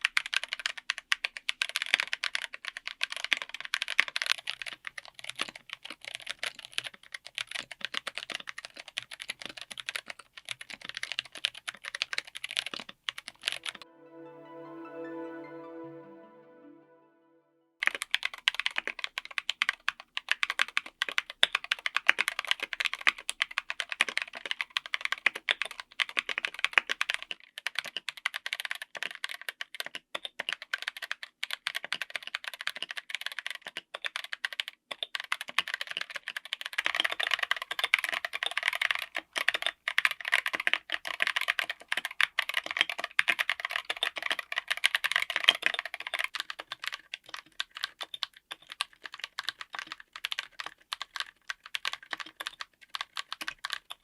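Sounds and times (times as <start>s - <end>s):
mechanical keyboard typing: 0.0s - 13.8s, 18.0s - 54.0s.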